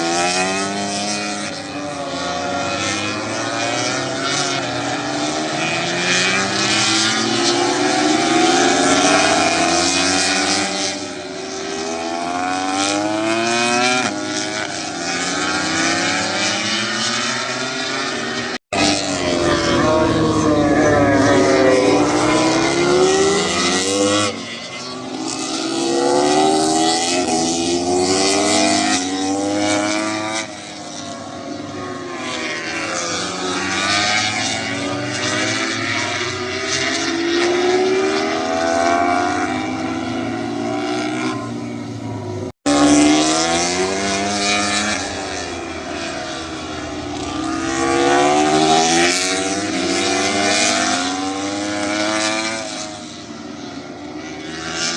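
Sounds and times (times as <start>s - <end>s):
racing motorcycles passing: 0.0s - 54.9s.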